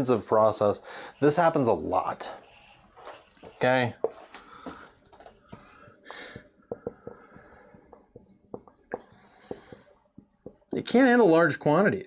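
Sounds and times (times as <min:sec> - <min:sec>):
marker writing on whiteboard: 0:01.2 - 0:11.4.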